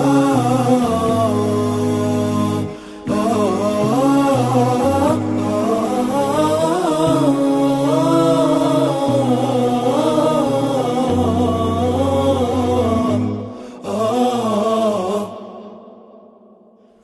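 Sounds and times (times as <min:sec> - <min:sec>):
man vocalising wordlessly: 0:00.0 - 0:15.6.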